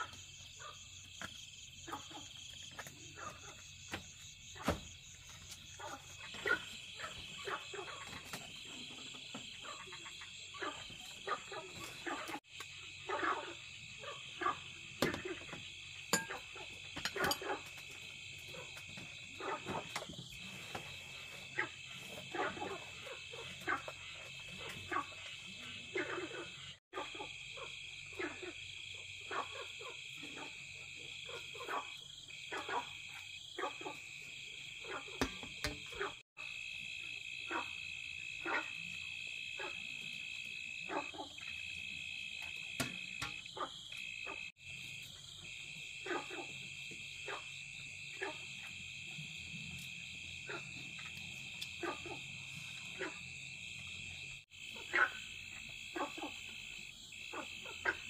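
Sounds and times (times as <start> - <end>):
frogs calling: 0.0 - 17.9, 18.5 - 49.0, 50.0 - 58.0
insects chorus: 0.0 - 58.0.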